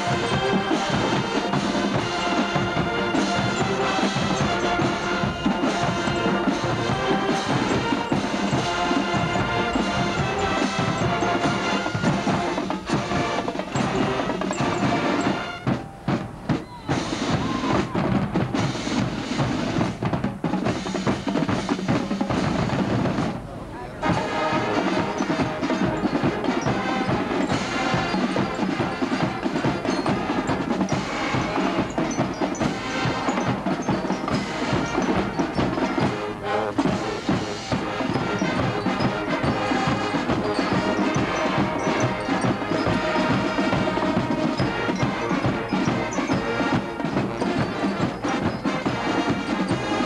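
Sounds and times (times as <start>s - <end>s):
marching band playing: 0.0s - 50.0s
steady drum beat: 0.0s - 50.0s.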